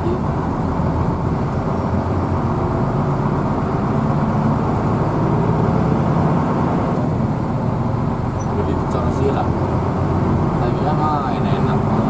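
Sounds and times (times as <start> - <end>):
bus diesel engine and road noise: 0.0 - 12.0.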